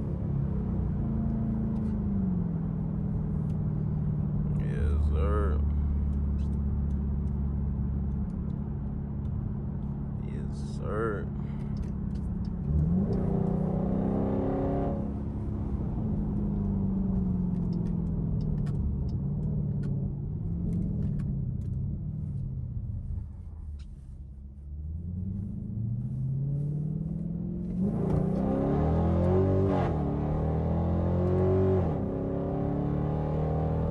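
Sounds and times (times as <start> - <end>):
car engine and exhaust accelerating: 0.0 - 33.9.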